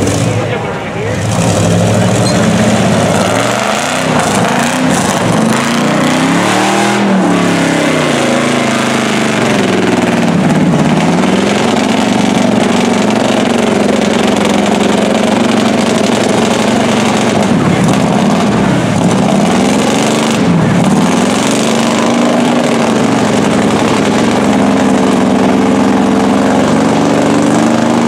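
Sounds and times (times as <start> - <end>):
truck engine running wide open: 0.0 - 28.0.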